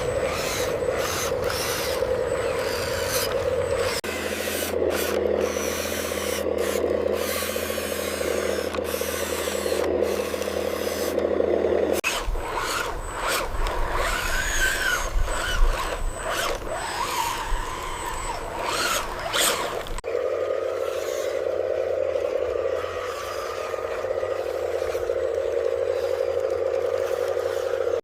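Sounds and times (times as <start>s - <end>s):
low rumble with whine: 0.0s - 28.0s
small motors grinding rasp: 0.0s - 28.0s.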